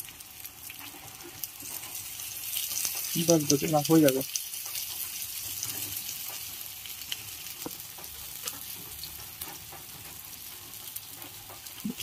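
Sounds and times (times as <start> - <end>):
fritters frying in oil: 0.0 - 12.0.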